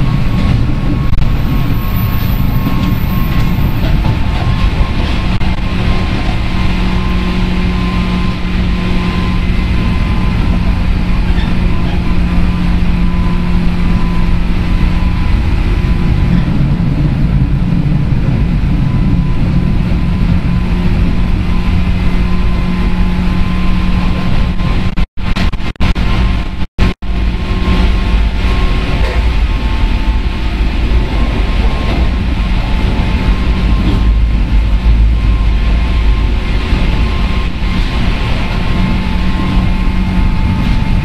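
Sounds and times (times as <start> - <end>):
steady low hum: 0.0 - 41.0
train wheels rumbling on rail: 0.0 - 41.0.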